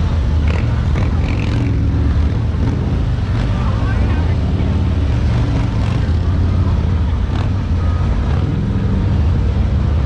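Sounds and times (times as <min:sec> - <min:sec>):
faint crowd chatter: 0:00.0 - 0:10.0
motorcycle engines rumbling: 0:00.0 - 0:10.0.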